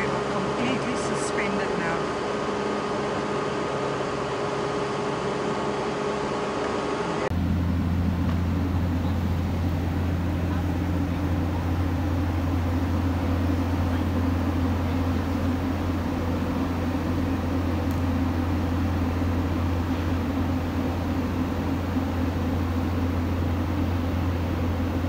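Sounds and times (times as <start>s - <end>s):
travel lift mechanical drone: 0.0s - 25.0s.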